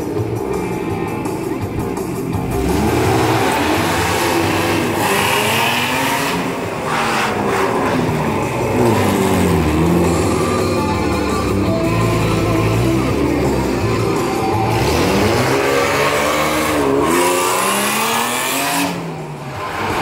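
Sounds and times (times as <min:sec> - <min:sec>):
car engine revving: 0:00.0 - 0:20.0
rock music from loudspeakers: 0:00.0 - 0:20.0.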